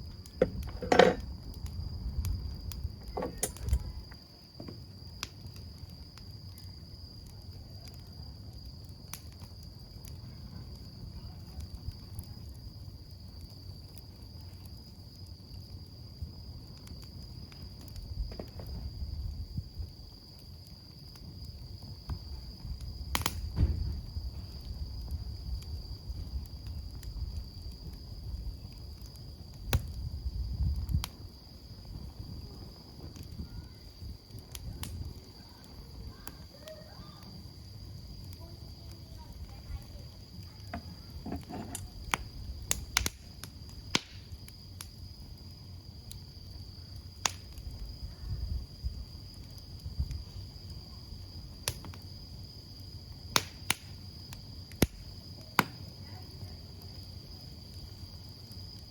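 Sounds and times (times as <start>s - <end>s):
campfire crackling and popping: 0.0s - 58.9s
cricket trilling: 0.0s - 58.9s.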